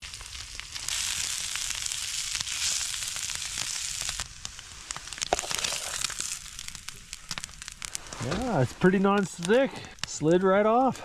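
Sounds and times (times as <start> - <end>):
food sizzling in a skillet: 0.0 - 10.3
crackling pops: 0.0 - 11.0.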